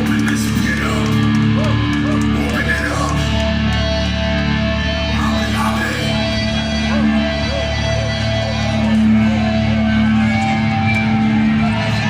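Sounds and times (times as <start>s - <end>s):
bass guitar: 0.0s - 12.0s
distorted electric guitar: 0.0s - 12.0s
drums: 0.0s - 12.0s.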